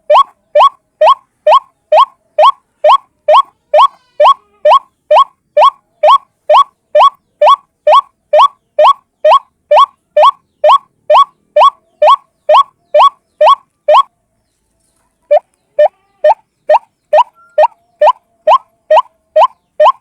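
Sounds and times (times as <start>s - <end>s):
waterhen calling: 0.0s - 14.1s, 15.3s - 20.0s.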